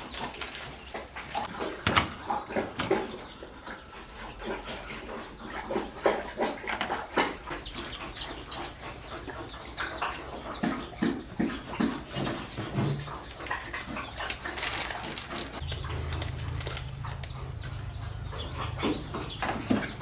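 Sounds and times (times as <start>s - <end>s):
chicken clucking: 0.0s - 20.0s.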